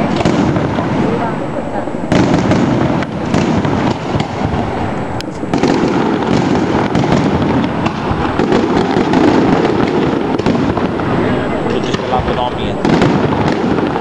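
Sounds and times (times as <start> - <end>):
fireworks bangs and crackling: 0.0 - 14.0
sharp firework crack: 0.0 - 14.0.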